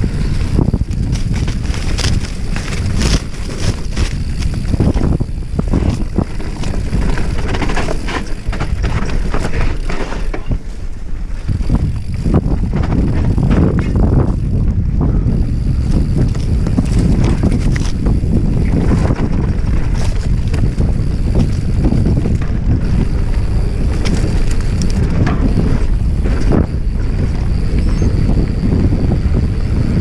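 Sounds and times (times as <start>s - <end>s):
bike clattering over rocks: 0.0s - 15.1s, 15.8s - 27.7s
continuous rumble: 0.0s - 30.0s
wind buffeting microphone: 0.0s - 30.0s.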